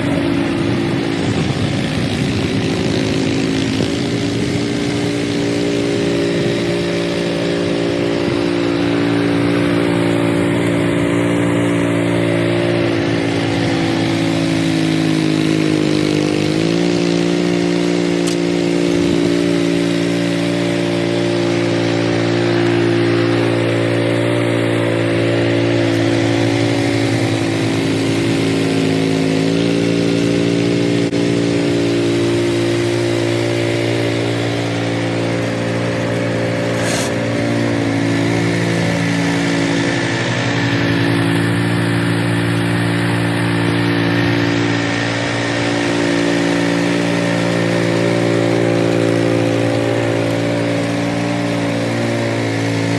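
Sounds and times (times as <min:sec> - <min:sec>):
snowblower engine running: 0:00.0 - 0:52.9.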